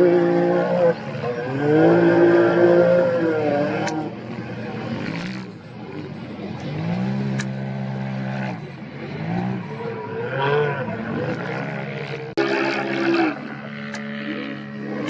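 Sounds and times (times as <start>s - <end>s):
race vehicle engine revving: 0.0s - 15.0s.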